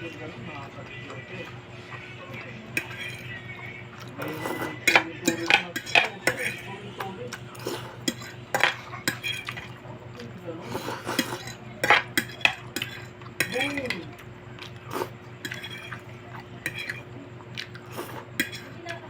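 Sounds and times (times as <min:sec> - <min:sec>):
utensils clinking on a plate: 0:00.0 - 0:19.0.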